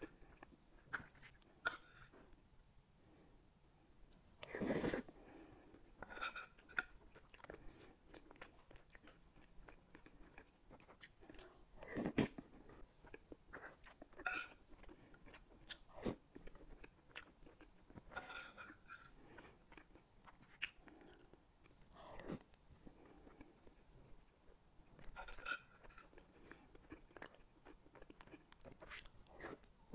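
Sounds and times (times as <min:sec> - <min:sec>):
chewing and wet mouth sounds: 0:04.0 - 0:29.9.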